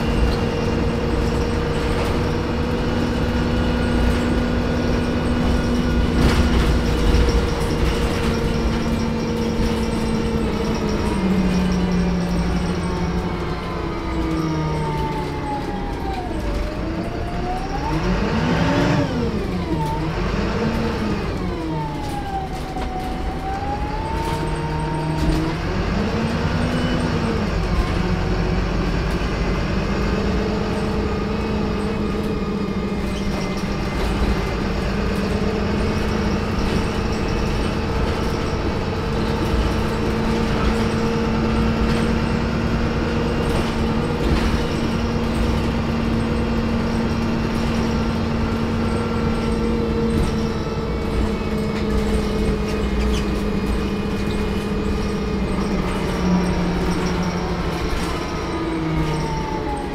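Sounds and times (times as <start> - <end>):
interior rattles: 0.0 - 17.8, 19.4 - 59.9
bus engine and turbo whine: 0.0 - 59.9
road rumble: 0.0 - 59.9.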